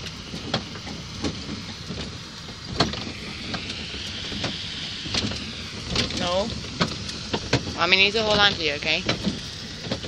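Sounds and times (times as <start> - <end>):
small train rumbling: 0.0 - 10.0.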